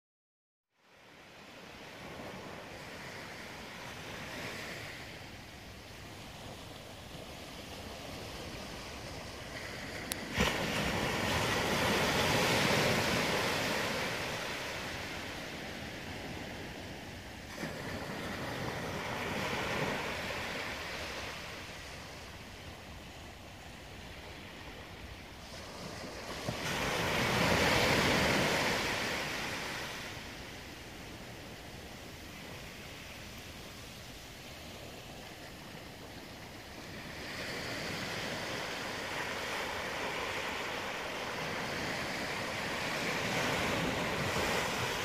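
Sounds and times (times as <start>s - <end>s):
ocean waves breaking on beach: 0.8s - 45.0s.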